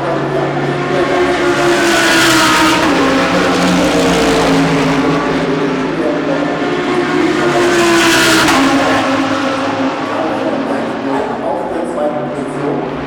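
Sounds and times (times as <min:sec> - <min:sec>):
race car engines: 0:00.0 - 0:13.0
race car passing close: 0:00.0 - 0:13.0.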